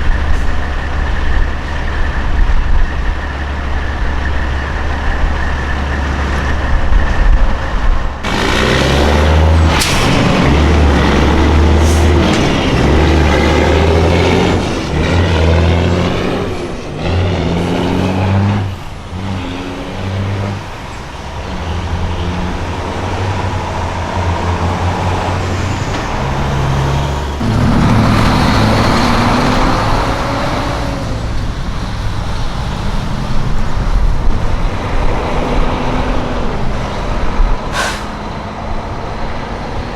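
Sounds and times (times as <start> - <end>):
diesel truck engines shifting gears: 0.0 - 39.9.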